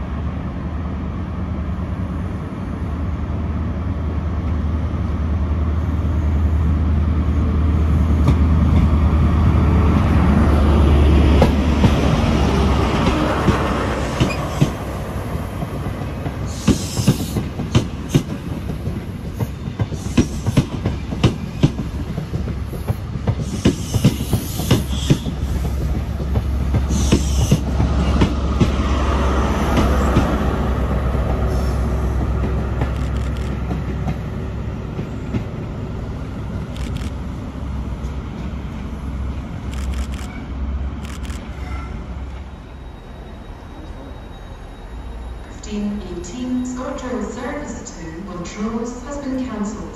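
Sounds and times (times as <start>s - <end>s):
diesel train engine droning: 0.0s - 49.9s.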